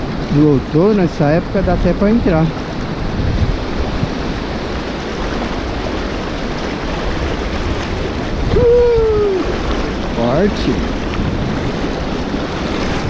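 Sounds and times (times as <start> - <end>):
river water rushing: 0.0 - 13.0
surf: 0.0 - 13.0.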